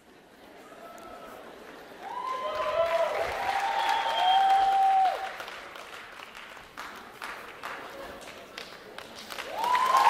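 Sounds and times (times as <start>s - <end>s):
audience applauding and cheering: 0.6s - 10.0s.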